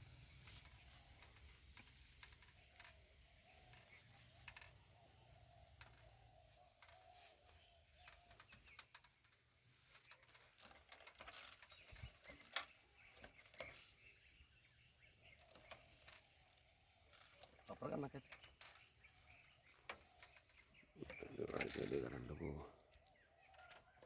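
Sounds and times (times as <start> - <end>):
small clicks and crackles: 0.0 - 24.0.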